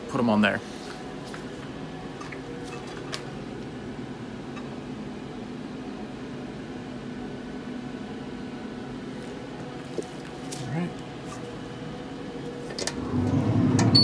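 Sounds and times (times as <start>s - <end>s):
smoker fan humming: 0.0s - 14.0s.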